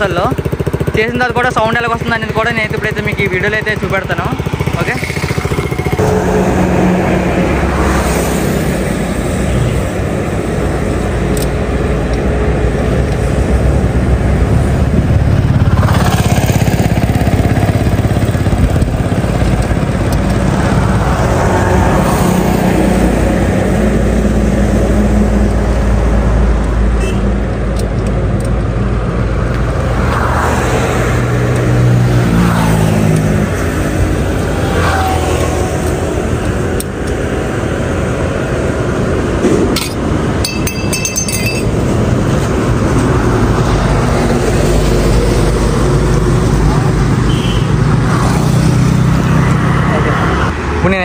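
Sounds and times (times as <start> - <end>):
motorcycle engine revving: 0.0 - 50.7.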